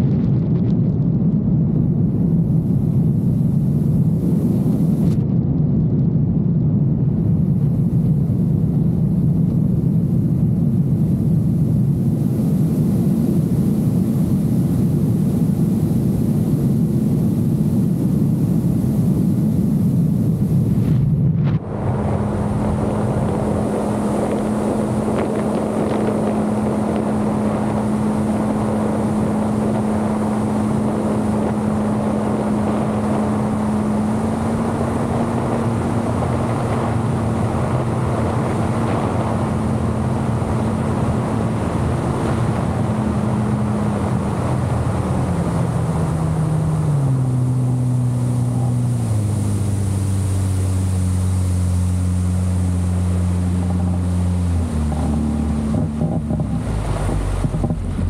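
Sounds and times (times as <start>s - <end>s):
jet ski engine running: 0.0s - 58.0s
wind rushing: 6.2s - 58.0s.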